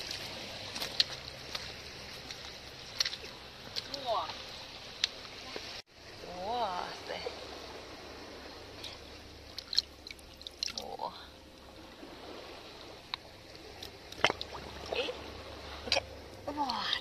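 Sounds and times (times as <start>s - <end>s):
faint water trickle: 0.0s - 17.0s.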